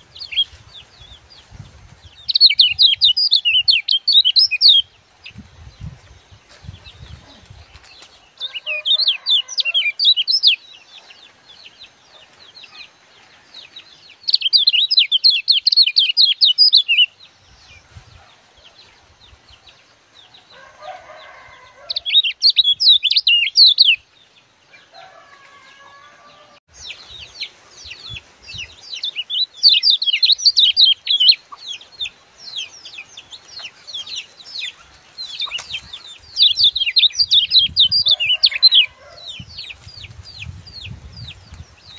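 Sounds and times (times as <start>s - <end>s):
bird twittering chirps: 0.0s - 12.9s, 13.6s - 18.2s, 21.3s - 24.1s, 26.7s - 41.9s.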